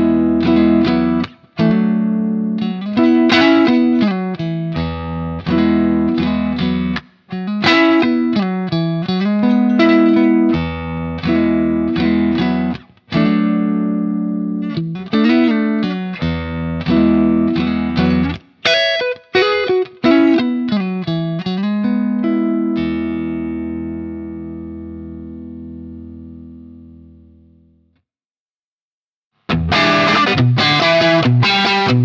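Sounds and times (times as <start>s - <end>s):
electric guitar with overdrive: 0.0s - 27.7s, 29.5s - 32.0s.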